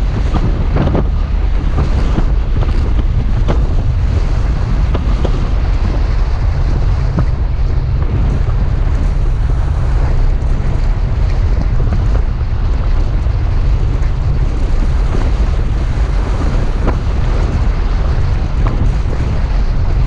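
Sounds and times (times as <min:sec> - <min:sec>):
vehicle driving through sand: 0:00.0 - 0:20.0
wind buffeting microphone: 0:00.0 - 0:20.0.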